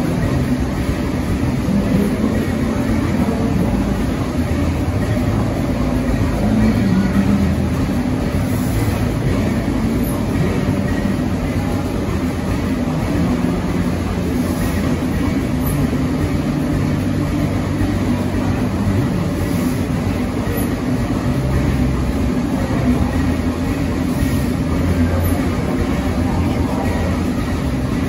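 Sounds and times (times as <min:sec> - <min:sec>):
stationary engine running: 0:00.0 - 0:28.0.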